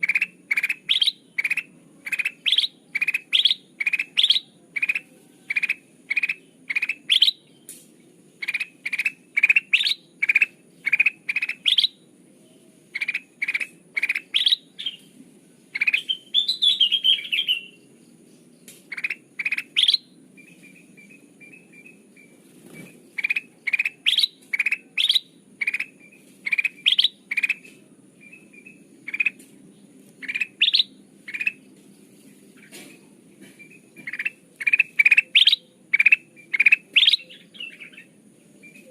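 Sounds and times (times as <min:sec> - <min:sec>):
bulbul calling: 0:00.0 - 0:07.8, 0:08.4 - 0:12.0, 0:12.9 - 0:15.1, 0:15.7 - 0:17.8, 0:18.9 - 0:29.4, 0:30.2 - 0:31.7, 0:32.6 - 0:38.9.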